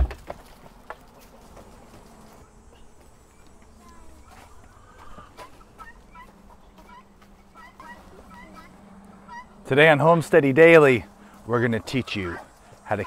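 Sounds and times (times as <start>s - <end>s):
chickens clucking: 0.4s - 13.0s.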